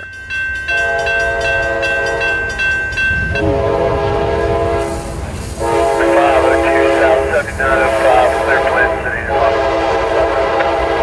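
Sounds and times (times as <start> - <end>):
train rumbling: 0.0 - 11.0
locomotive air horn blasts: 0.7 - 2.4, 3.3 - 11.0.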